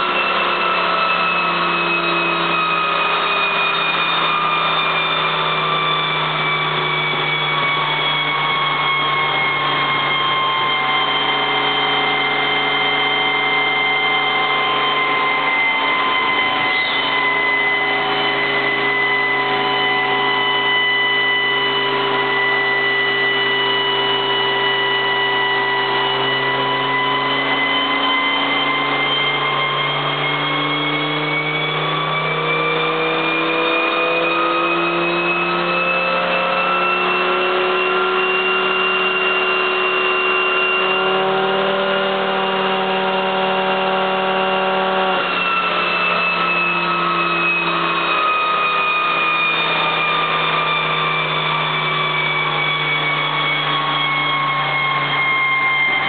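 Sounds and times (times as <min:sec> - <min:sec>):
car engine on dynamometer: 0:00.0 - 0:56.0
high whine: 0:00.0 - 0:56.0.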